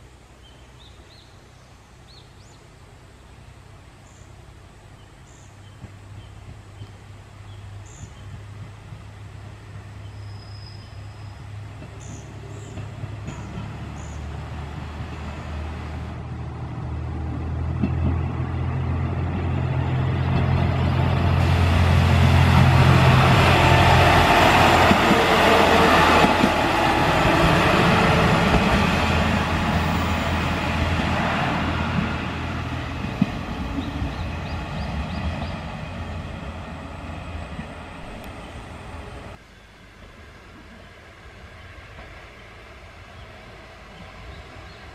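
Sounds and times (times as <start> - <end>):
diesel railcar engine hum: 0.0 - 44.9.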